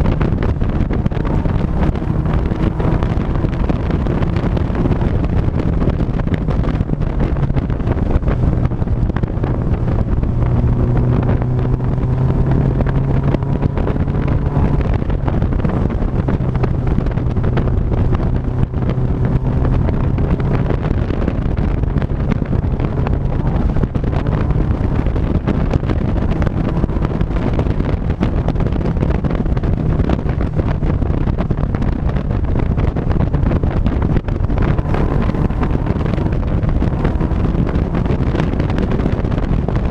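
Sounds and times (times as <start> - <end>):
faint drifting tones: 0.0 - 39.9
vehicle engine drone: 0.0 - 39.9
wind buffeting microphone: 0.0 - 39.9.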